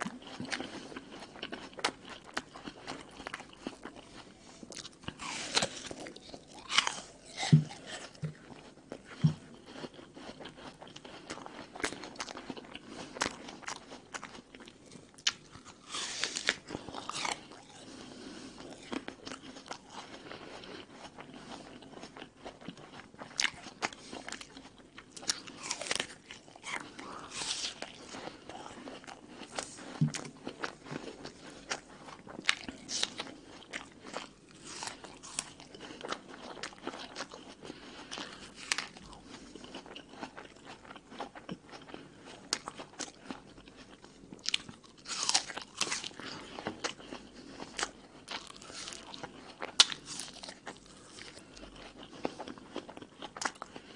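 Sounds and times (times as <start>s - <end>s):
apple crunching and chewing: 0.0s - 53.9s.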